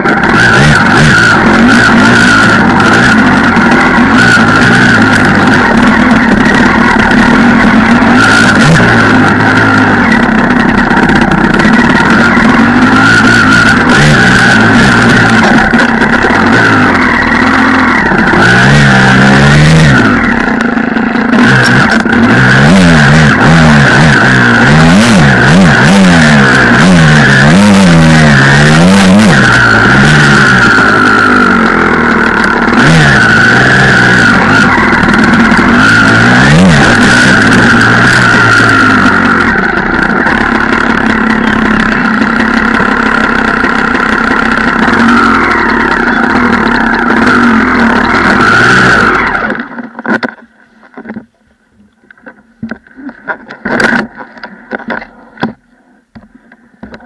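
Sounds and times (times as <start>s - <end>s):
dirt bike engine revving: 0.0s - 51.2s, 52.2s - 55.8s.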